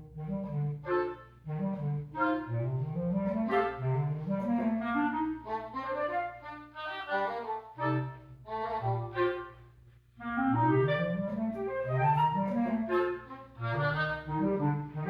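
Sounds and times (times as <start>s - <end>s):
clarinet: 0.0s - 15.0s
woodwind quintet playing: 0.0s - 15.0s.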